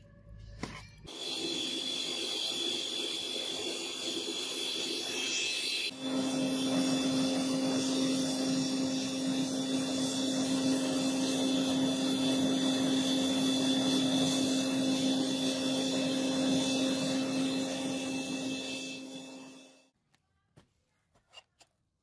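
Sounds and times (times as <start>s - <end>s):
electric air blower humming: 1.1s - 19.7s.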